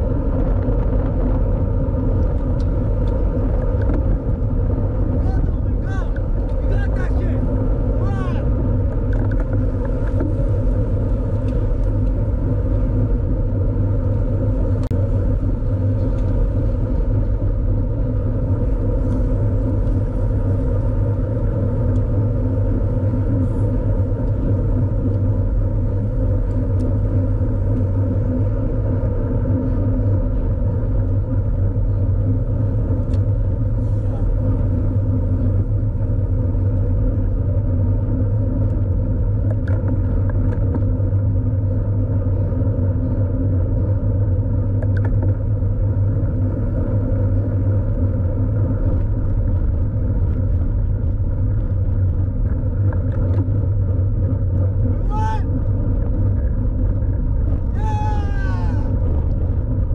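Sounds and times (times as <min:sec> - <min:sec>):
road noise: 0:00.0 - 0:59.9
wind buffeting microphone: 0:00.0 - 0:59.9.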